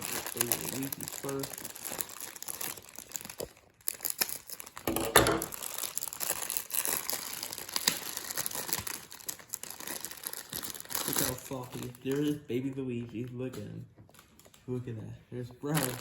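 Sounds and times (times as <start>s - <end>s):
toy packaging crinkling and tearing: 0.0s - 14.8s, 15.6s - 16.0s.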